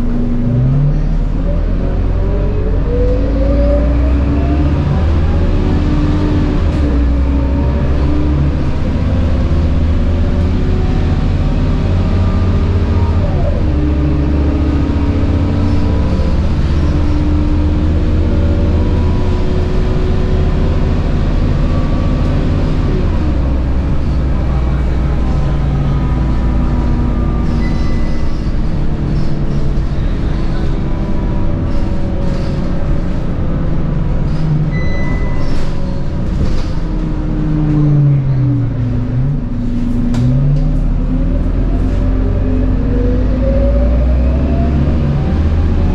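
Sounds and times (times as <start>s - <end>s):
bus diesel engine droning: 0.0s - 45.9s.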